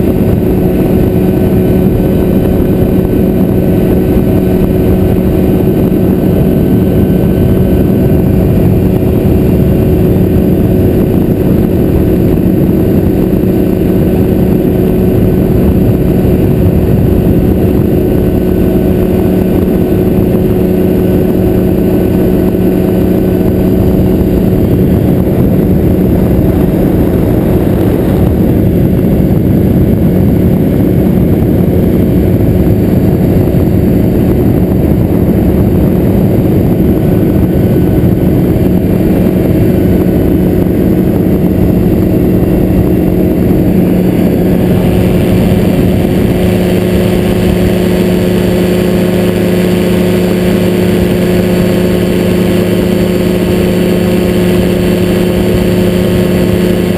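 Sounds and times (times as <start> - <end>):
engine and propeller drone: 0.0 - 56.9.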